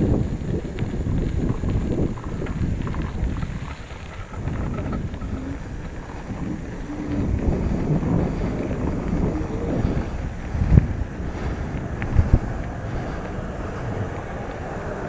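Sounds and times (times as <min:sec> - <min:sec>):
tyres rolling over dirt: 0:00.0 - 0:15.0
wind buffeting microphone: 0:00.0 - 0:15.0.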